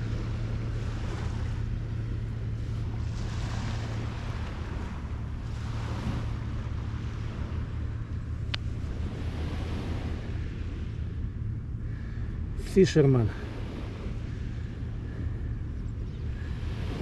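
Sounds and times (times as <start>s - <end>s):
steady low hum: 0.0s - 17.0s
waves washing onto shore: 0.0s - 17.0s
wind buffeting microphone: 0.0s - 17.0s.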